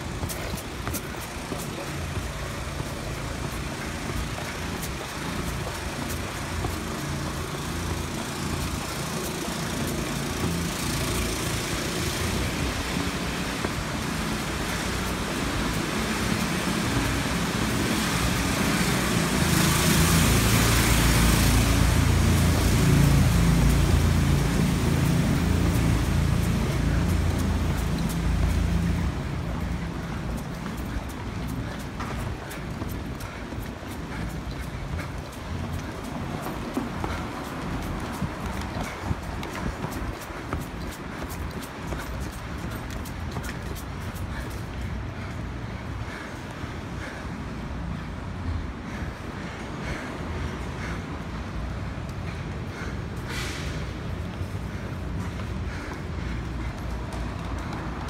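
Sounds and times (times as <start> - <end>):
car and truck engines: 0.0 - 58.0
vehicles passing close by: 0.0 - 58.0.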